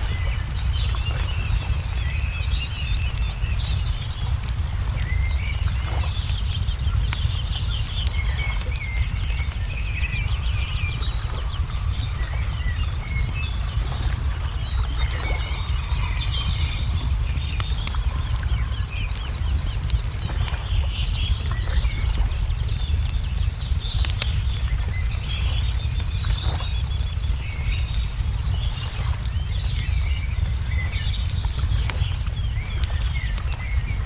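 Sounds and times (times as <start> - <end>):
songbirds chirping: 0.0 - 34.0
steady low rumble: 0.0 - 34.0
wood fire crackling and popping: 0.0 - 34.0.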